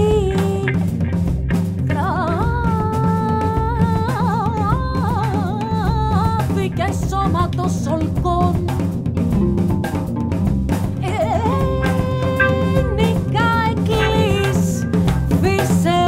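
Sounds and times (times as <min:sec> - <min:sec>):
woman singing: 0:00.0 - 0:00.9, 0:01.9 - 0:08.8, 0:11.0 - 0:16.0
electric guitar: 0:00.0 - 0:06.9, 0:08.6 - 0:16.0
bass guitar: 0:00.0 - 0:16.0
drum kit: 0:00.0 - 0:16.0.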